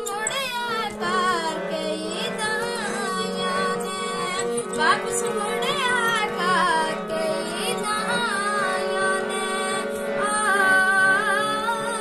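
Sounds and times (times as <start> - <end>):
harmonium reed chords: 0.0 - 12.0.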